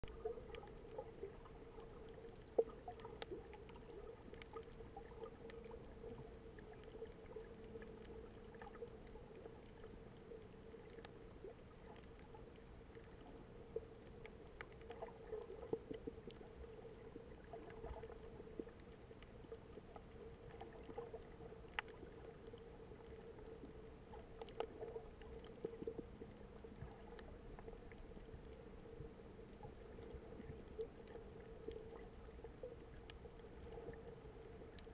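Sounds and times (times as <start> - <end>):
muffled underwater hum: 0.0 - 34.9
clicks and crackles: 0.1 - 34.9.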